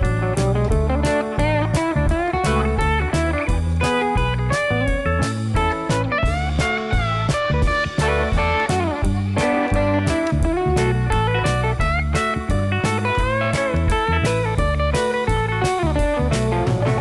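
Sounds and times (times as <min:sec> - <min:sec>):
guitar tune over a beat: 0:00.0 - 0:17.0.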